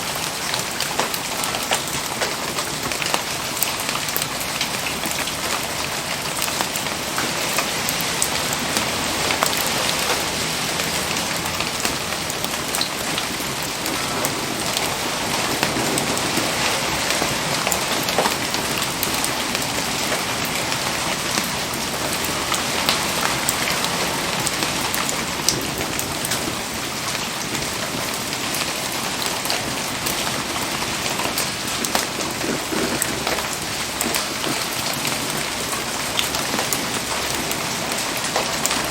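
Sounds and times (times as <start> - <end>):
raindrops ticking: 0.0 - 38.9
steady rain hiss: 0.0 - 38.9.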